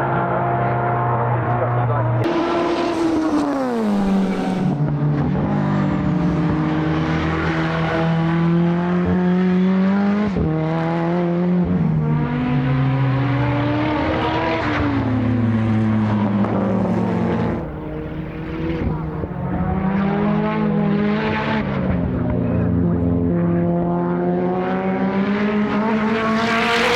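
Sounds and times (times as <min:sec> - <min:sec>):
race car engine at full throttle: 0:00.0 - 0:26.9.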